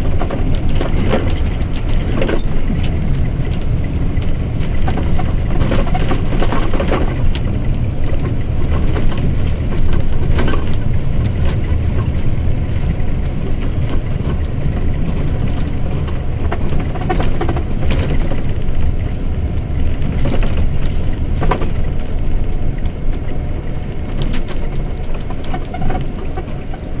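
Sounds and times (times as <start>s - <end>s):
short rattles and knocks: 0.0s - 12.5s, 13.2s - 23.4s
bus engine rumbling: 0.0s - 27.0s.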